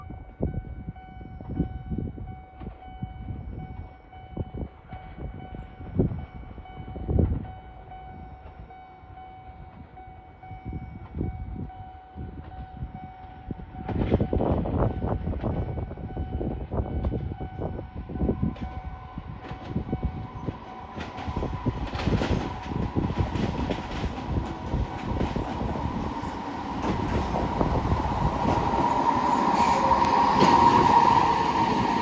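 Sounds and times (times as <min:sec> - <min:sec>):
train rumbles and knocks: 0:00.0 - 0:32.0
electric train high whine: 0:01.6 - 0:32.0.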